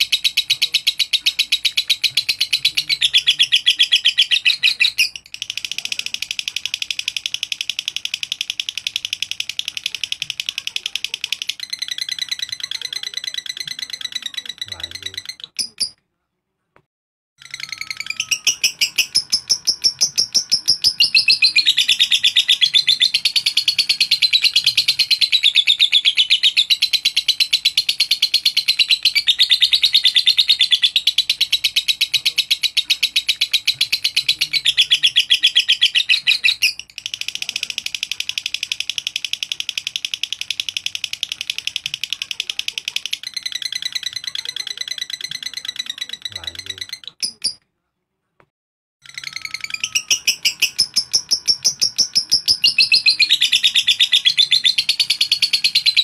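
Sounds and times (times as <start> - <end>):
bird chattering in high chirps: 0.0 - 16.0, 17.4 - 47.6, 49.0 - 56.0.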